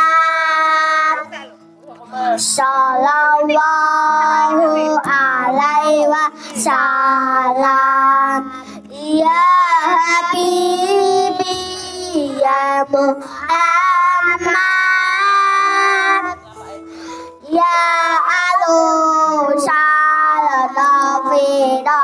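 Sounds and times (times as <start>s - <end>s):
boy singing into microphone: 0.0s - 1.5s, 2.1s - 22.0s.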